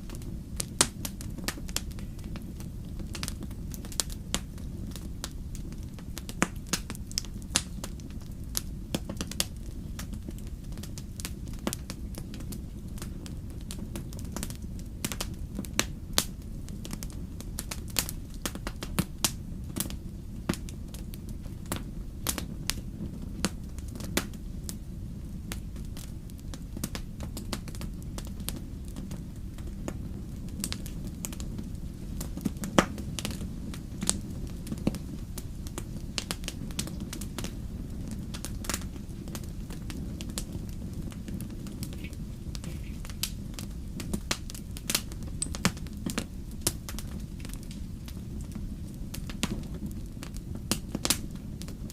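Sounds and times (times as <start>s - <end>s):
fire snapping and popping: 0.0s - 51.9s
low fire rumble: 0.0s - 51.9s.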